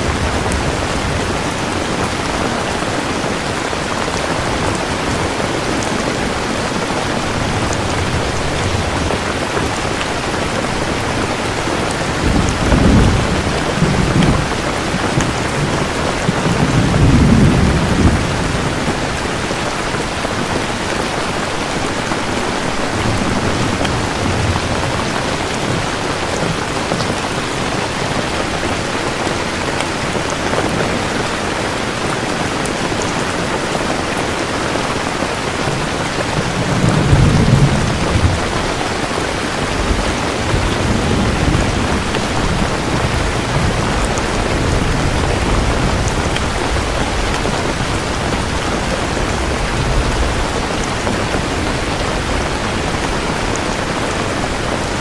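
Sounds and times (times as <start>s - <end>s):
thunder rumbling: 0.0s - 31.7s, 34.9s - 55.0s
heavy rain falling: 0.0s - 55.0s.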